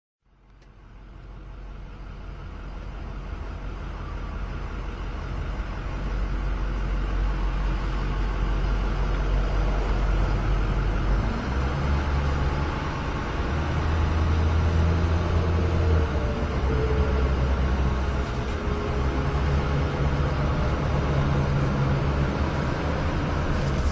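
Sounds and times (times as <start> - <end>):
car road and engine noise: 0.2 - 23.9.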